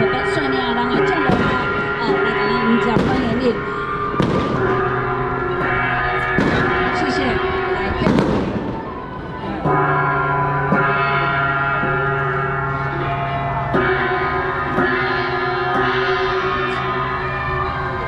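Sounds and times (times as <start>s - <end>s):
gongs ringing: 0.0s - 18.0s.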